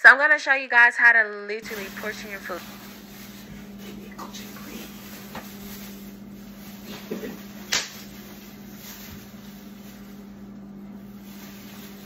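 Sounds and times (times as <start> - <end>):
steady low hum: 1.6 - 12.0.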